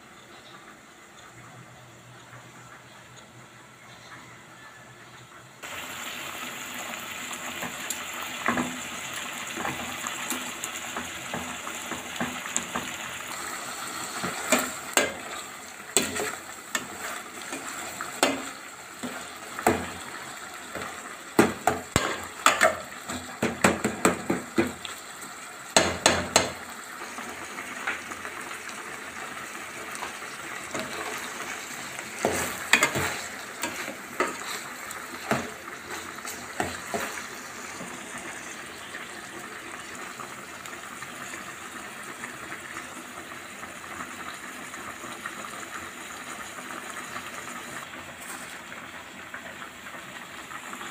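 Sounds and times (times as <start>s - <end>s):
meat and onions sizzling: 5.6s - 50.9s.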